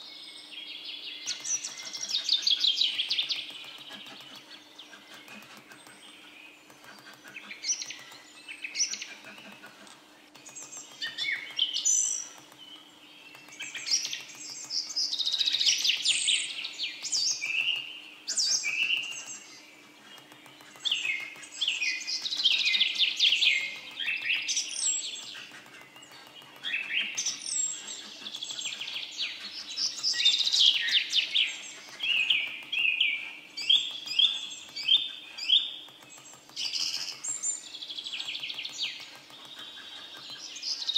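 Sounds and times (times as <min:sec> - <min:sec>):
songbird singing trills: 0:00.0 - 0:40.9.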